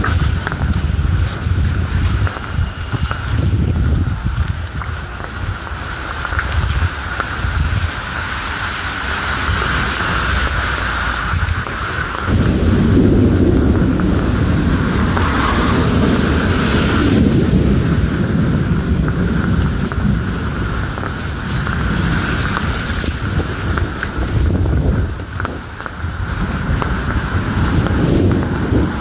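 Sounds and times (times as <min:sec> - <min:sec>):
low rumble of thunder: 0:00.0 - 0:08.4, 0:09.2 - 0:29.0
heavy rain on umbrella: 0:00.0 - 0:29.0.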